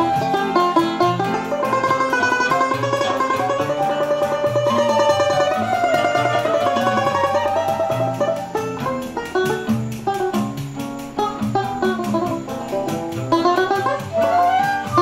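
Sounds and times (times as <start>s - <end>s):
acoustic guitar bass notes: 0.0s - 15.0s
fast picked banjo notes: 0.0s - 15.0s
flute melody: 0.0s - 15.0s.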